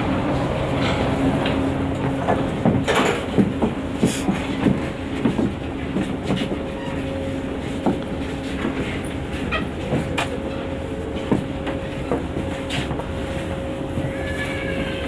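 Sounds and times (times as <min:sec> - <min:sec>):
train equipment humming: 0:00.0 - 0:15.0
passengers' footsteps: 0:00.3 - 0:15.0.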